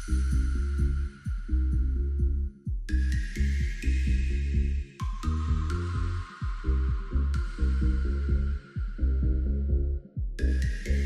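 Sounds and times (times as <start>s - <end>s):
electronic music with pulsing bass: 0.0s - 11.0s.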